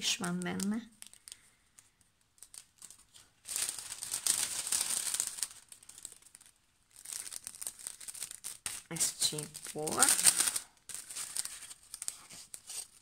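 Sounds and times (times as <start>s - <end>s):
cellophane crinkling: 0.0s - 13.0s.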